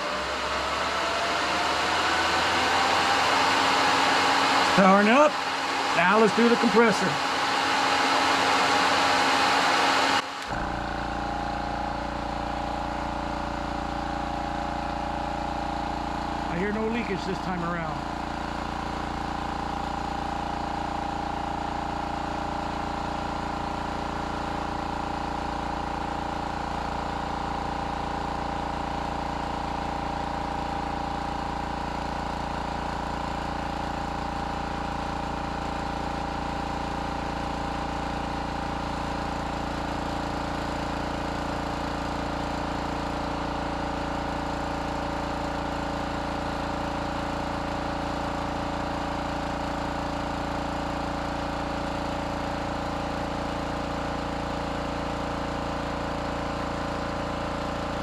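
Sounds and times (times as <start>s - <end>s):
air compressor running: 0.0s - 58.0s
water cooling system running: 0.0s - 58.0s.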